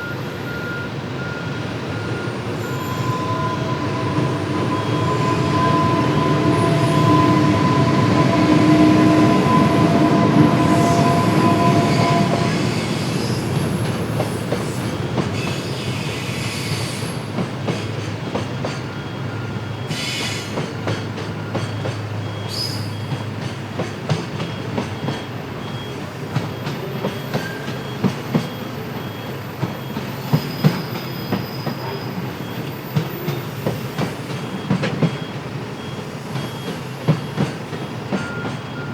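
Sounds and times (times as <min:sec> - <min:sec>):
electric locomotive whine: 0:00.0 - 0:38.9.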